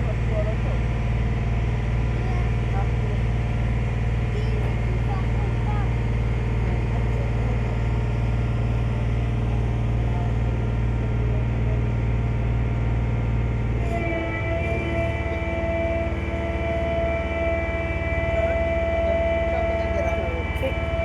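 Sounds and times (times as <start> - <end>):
ferry engine droning: 0.0 - 21.0
steady higher engine tones: 0.0 - 21.0.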